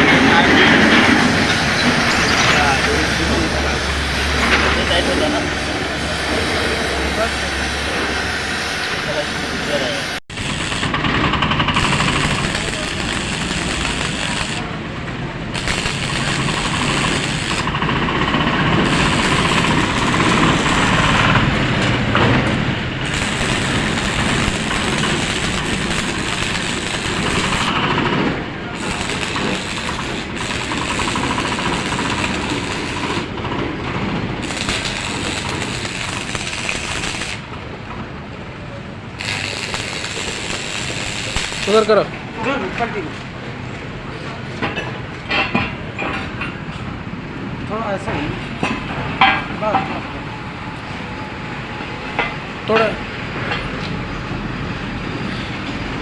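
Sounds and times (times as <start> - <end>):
loud machinery noise: 0.0 - 56.0.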